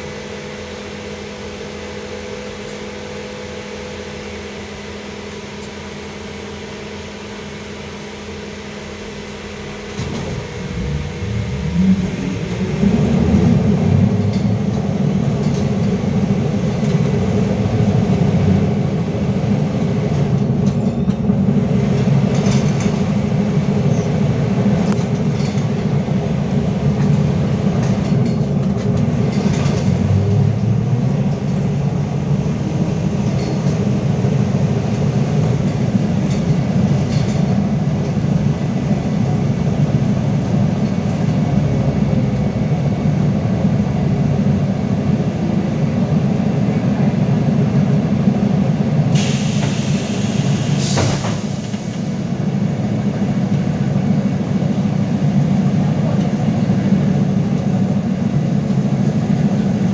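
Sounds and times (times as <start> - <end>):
trolleybus motor humming and whining: 0.0 - 59.9
trolleybus rumbling: 0.0 - 59.9.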